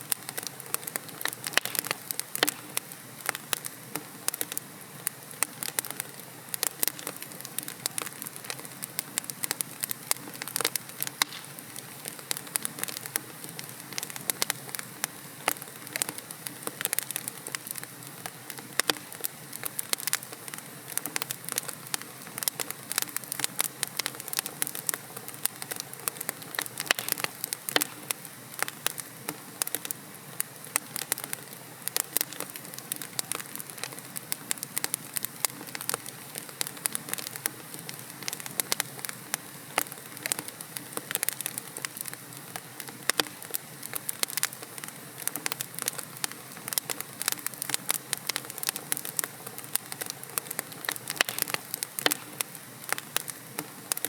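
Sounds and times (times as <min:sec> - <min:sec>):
logs crackling and popping: 0:00.0 - 0:54.0
hiss of flame: 0:00.1 - 0:54.0.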